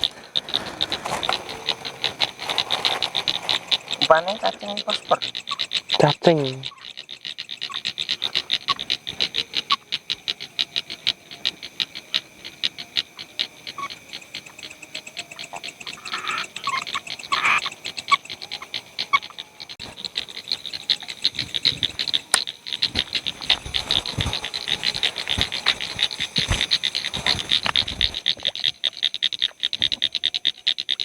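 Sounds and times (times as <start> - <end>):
frogs calling: 0.0 - 31.0.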